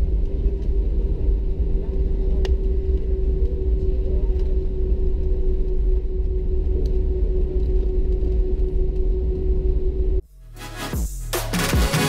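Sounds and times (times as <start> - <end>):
aircraft engine hum: 0.0 - 10.2
low rumble: 0.0 - 10.2.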